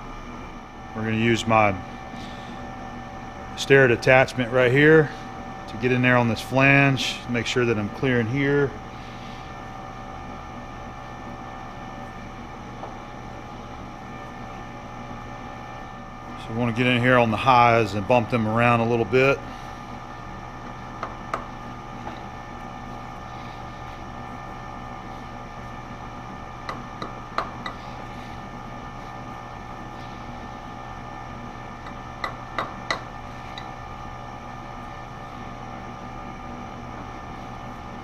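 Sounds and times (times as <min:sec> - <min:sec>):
steady shop hum: 0:00.0 - 0:38.0.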